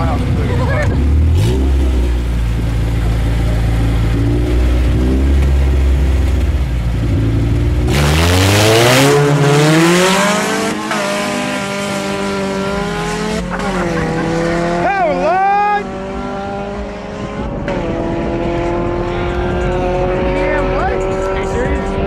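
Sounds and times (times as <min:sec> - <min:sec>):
car engines revving and accelerating: 0:00.0 - 0:22.0
tire noise: 0:00.0 - 0:22.0.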